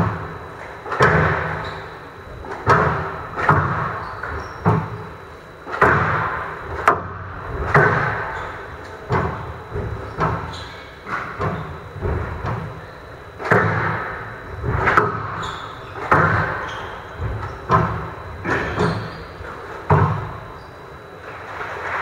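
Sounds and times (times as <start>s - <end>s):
squash ball hitting rackets and walls: 0.0s - 5.1s, 5.7s - 12.8s, 13.4s - 19.2s, 19.8s - 20.4s.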